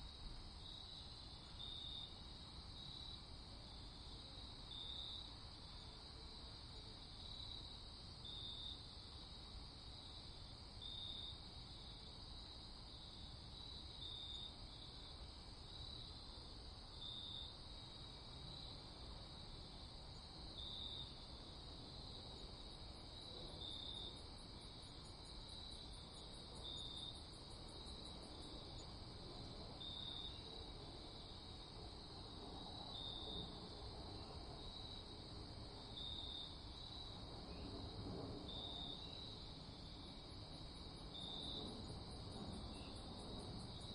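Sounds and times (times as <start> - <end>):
crickets chirring: 0.1 - 43.9.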